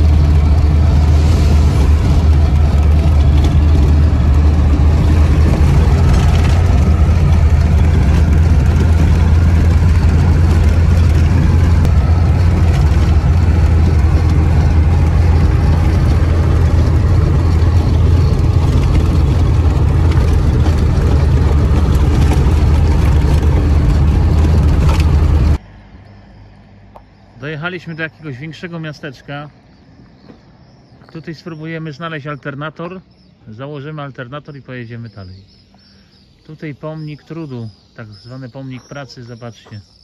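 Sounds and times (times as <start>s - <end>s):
tyres rumbling on gravel: 0.0s - 25.8s, 27.4s - 40.0s
car engine drone: 0.0s - 40.0s.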